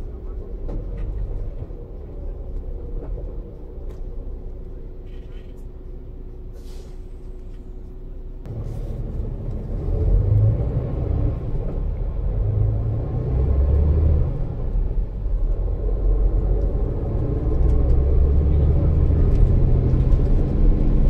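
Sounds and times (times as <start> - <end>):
coach diesel engine: 0.0 - 21.0
road rumble: 0.0 - 21.0.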